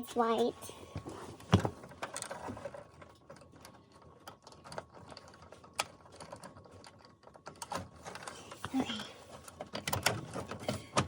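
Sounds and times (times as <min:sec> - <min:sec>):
plastic parts clicking and tapping: 0:01.4 - 0:11.0.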